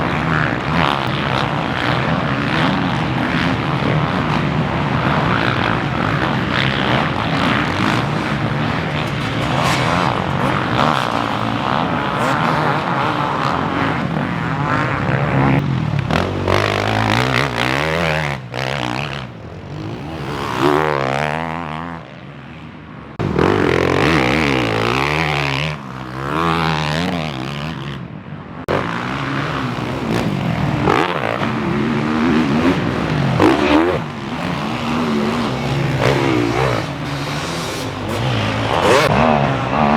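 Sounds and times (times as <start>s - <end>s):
dirt bikes racing: 0.0s - 39.9s.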